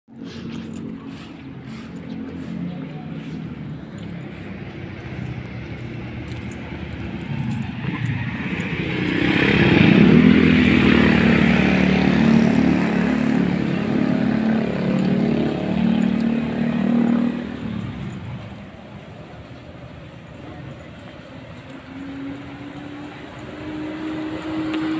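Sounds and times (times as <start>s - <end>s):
engine running: 0.1s - 24.9s.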